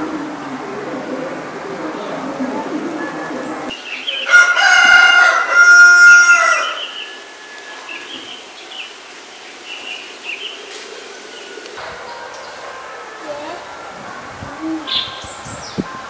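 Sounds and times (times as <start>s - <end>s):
faint bird chirping: 0.0s - 4.6s, 6.4s - 16.0s.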